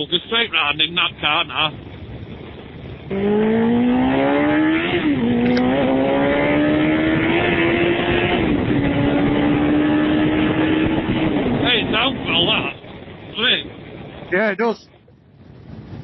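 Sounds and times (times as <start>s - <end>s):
motorcycle engine revving: 0.8s - 16.0s.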